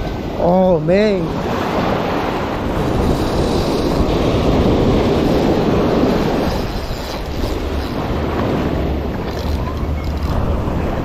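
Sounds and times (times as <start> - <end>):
ocean surf washing: 0.0 - 11.0
wind rumble on microphone: 0.0 - 11.0.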